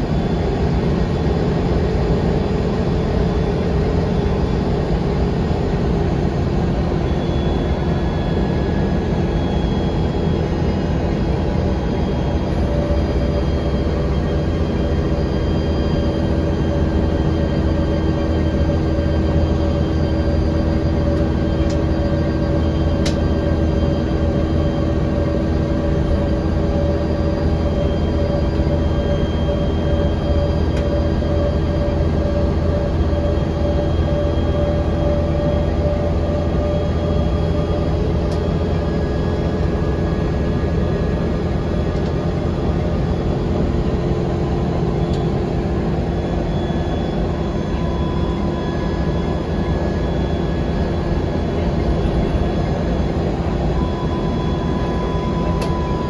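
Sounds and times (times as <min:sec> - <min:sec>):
bus engine drone: 0:00.0 - 0:56.0.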